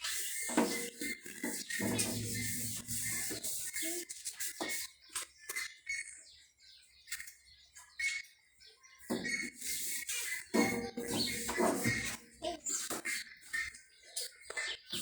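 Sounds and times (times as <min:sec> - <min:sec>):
plastic parts squeaking and knocking: 0:00.0 - 0:06.2, 0:09.0 - 0:15.0.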